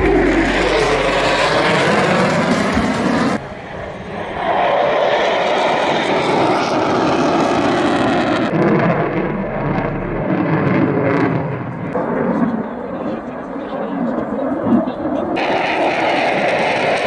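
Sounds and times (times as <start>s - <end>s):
airplane flying overhead: 0.0s - 17.0s.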